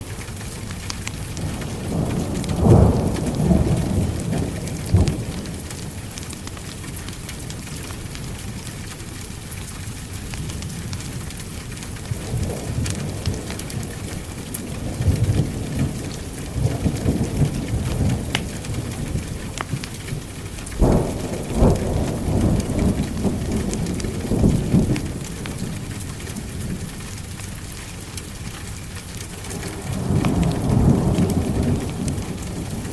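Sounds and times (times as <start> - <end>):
steady rain: 0.0 - 32.9
thunder rumbling: 1.2 - 8.6, 10.4 - 27.8, 29.2 - 32.9.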